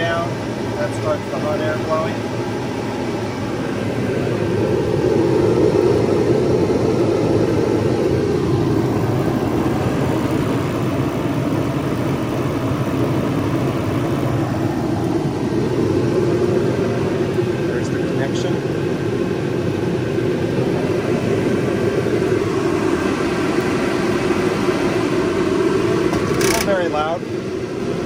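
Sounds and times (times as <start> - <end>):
forced-air heater fan blowing: 0.0 - 28.0
burner flame rushing: 0.1 - 28.0.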